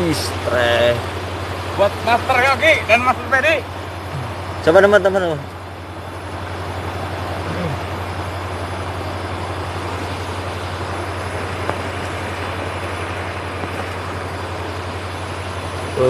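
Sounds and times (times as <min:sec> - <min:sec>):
constant low hum: 0:00.0 - 0:16.0
steady rushing noise: 0:00.0 - 0:16.0.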